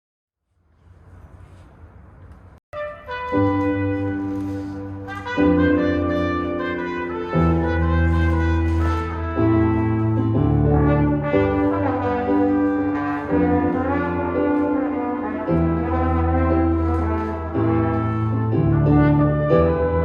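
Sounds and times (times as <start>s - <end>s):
low brass bass notes: 2.8s - 20.0s
wind band playing chords: 2.8s - 20.0s.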